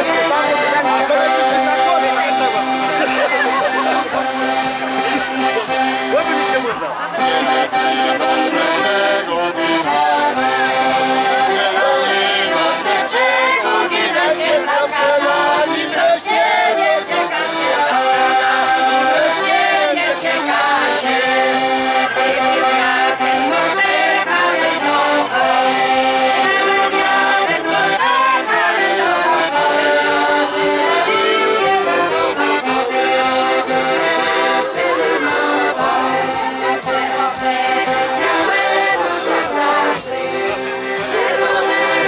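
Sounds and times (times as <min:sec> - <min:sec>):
accordion playing folk tune: 0:00.0 - 0:42.0.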